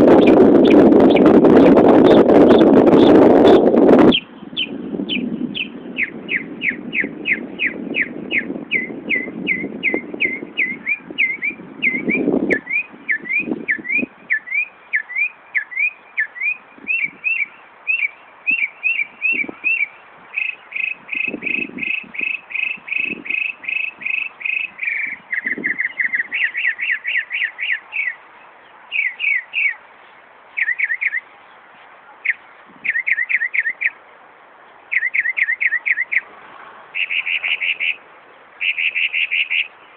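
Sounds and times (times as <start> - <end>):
wind rumbling on microphone: 0.0 - 39.9
mockingbird mimicking car alarm: 0.1 - 28.2, 28.9 - 29.8, 32.2 - 34.0, 34.9 - 36.3, 37.0 - 38.0, 38.6 - 39.7.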